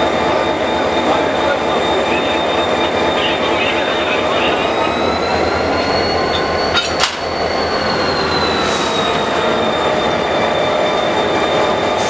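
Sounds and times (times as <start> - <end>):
diesel locomotive running: 0.0 - 12.0
high-pitched squeal: 0.0 - 12.0.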